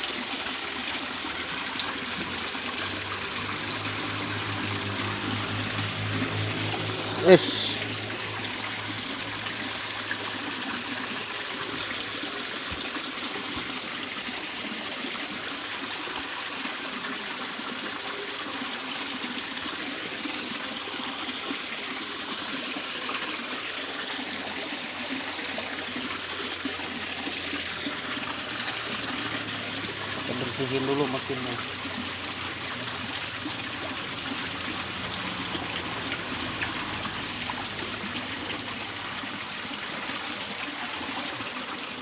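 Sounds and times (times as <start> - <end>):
pump humming: 0.0 - 42.0
water trickling: 0.0 - 42.0.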